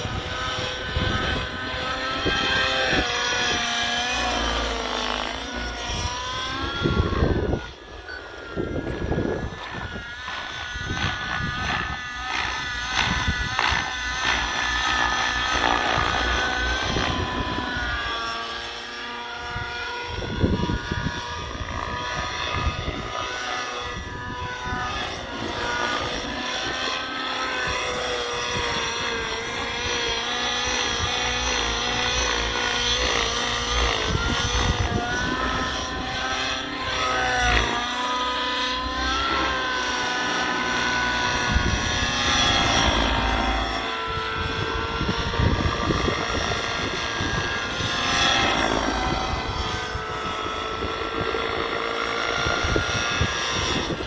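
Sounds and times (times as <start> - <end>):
rc helicopter engine running: 0.0 - 54.0.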